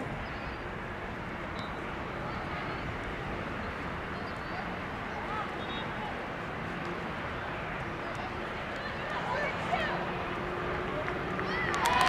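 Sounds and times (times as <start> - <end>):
faint distant voices: 1.7 - 12.0.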